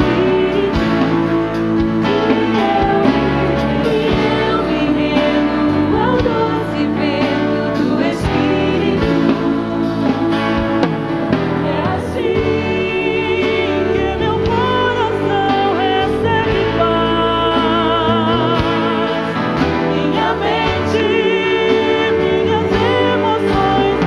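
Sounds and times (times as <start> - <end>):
band accompaniment: 0.0 - 24.0
women singing worship song: 0.0 - 24.0.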